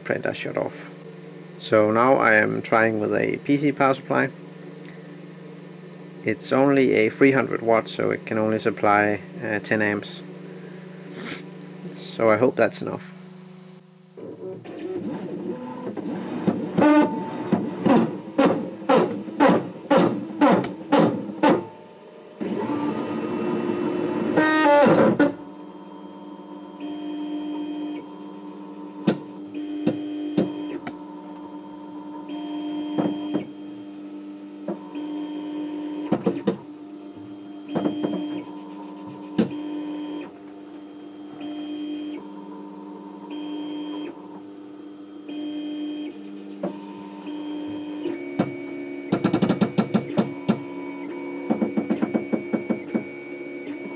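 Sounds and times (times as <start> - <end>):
higher motor tones: 0.0 - 53.9
stepper motors whining: 0.0 - 53.9.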